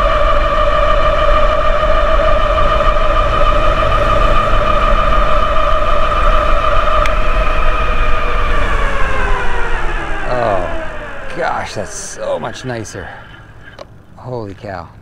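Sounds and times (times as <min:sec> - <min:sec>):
electric hub motors whining: 0:00.0 - 0:15.0
low wind rumble: 0:00.0 - 0:15.0.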